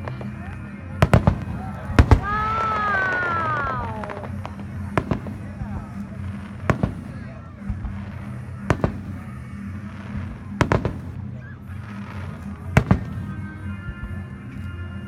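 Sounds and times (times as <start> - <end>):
fireworks bursting: 0.0 - 14.6.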